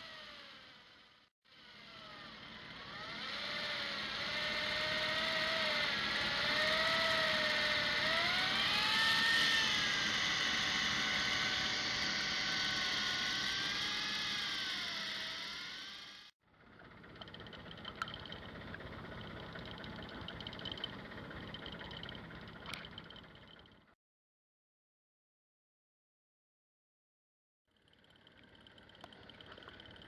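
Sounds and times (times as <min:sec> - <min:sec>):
fishing reel motor whining: 0:00.0 - 0:24.0, 0:27.7 - 0:30.0.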